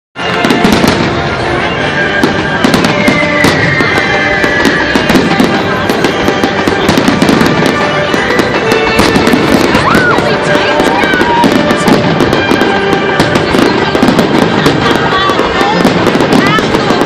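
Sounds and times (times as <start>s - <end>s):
fireworks bangs and crackles: 0.2s - 17.0s
music playing: 0.2s - 17.0s.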